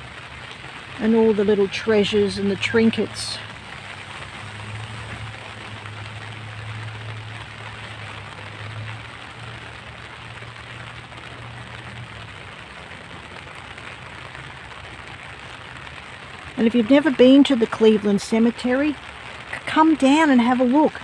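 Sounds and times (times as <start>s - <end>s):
rain on an umbrella: 0.0s - 21.0s.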